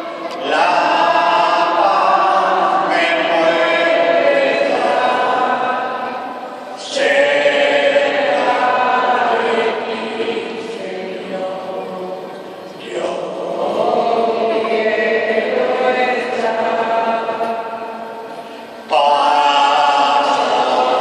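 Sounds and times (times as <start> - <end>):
congregation singing a hymn: 0.0 - 21.0.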